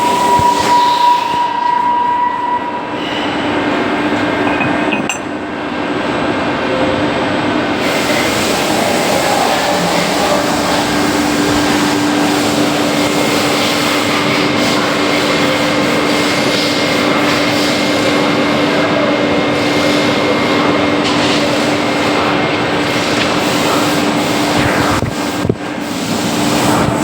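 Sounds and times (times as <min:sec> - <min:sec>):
cnc machine running: 0:04.1 - 0:27.0.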